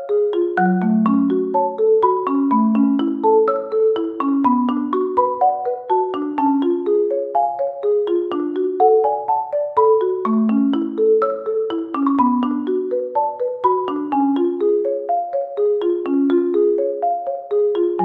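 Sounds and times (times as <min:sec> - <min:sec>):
mallet percussion tune: 0:00.0 - 0:18.0.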